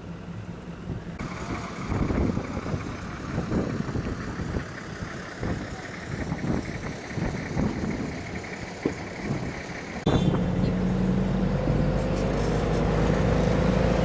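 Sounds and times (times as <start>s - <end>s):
bus engines running: 0.0s - 14.0s.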